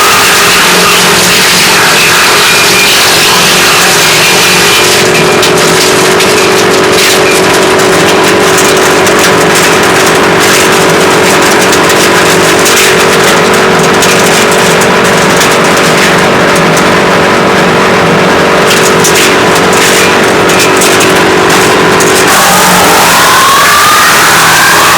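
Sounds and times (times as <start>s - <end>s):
wood chipper humming: 0.0s - 24.9s.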